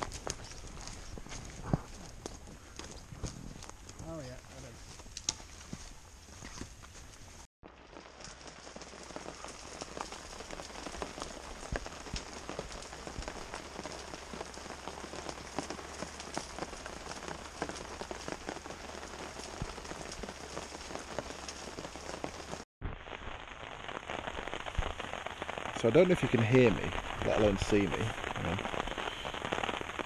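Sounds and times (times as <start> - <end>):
heavy rain on a tarp: 0.0 - 4.7, 7.6 - 30.0.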